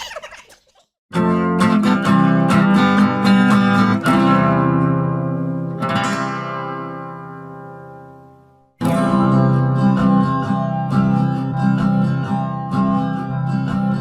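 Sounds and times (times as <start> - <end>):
strummed acoustic guitar: 1.1 - 14.0.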